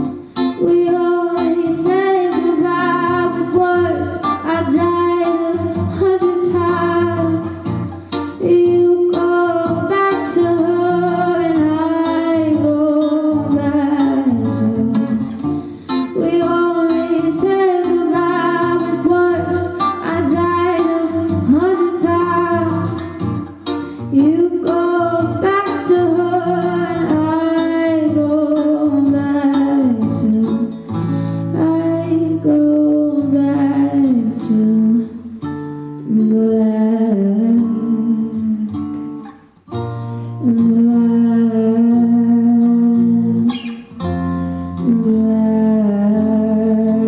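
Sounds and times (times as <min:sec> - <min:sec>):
woman singing: 0:00.0 - 0:35.4, 0:36.0 - 0:39.2, 0:40.3 - 0:44.0, 0:44.7 - 0:47.0
strummed acoustic guitar: 0:00.0 - 0:47.0.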